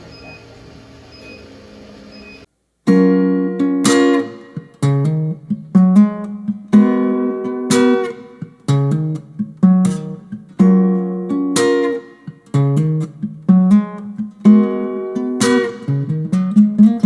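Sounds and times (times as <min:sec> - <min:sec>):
acoustic guitar strumming chords: 0:02.9 - 0:17.0.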